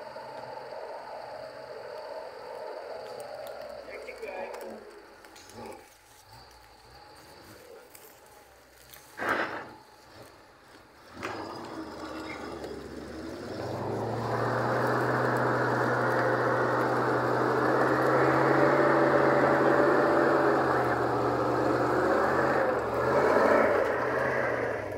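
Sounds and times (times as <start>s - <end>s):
truck engine revving: 0.0s - 24.9s.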